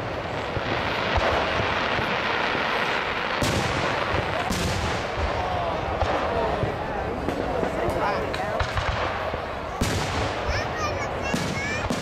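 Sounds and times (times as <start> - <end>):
fireworks booming: 0.0 - 12.0
steady rush of noise: 0.0 - 12.0.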